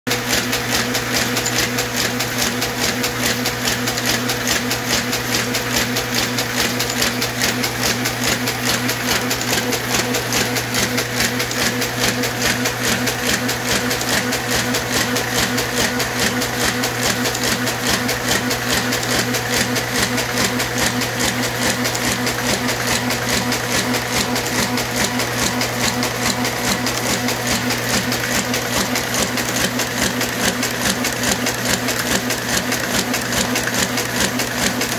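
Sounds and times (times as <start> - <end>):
printing press clatter: 0.1 - 34.9
motor hum: 1.0 - 34.9.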